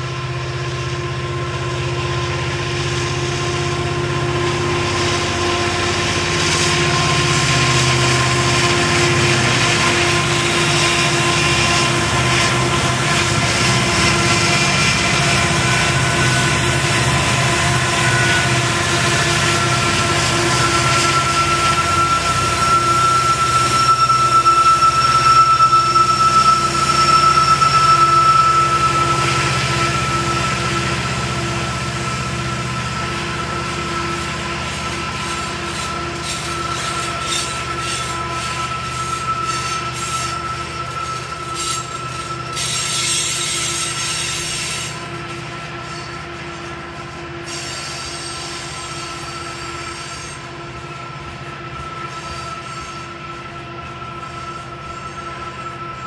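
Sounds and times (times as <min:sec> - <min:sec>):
diesel locomotive engine rumble: 0:00.0 - 0:56.0
high-pitched wheel squeal: 0:00.0 - 0:56.0
train wheels clicking on rails: 0:00.0 - 0:56.0.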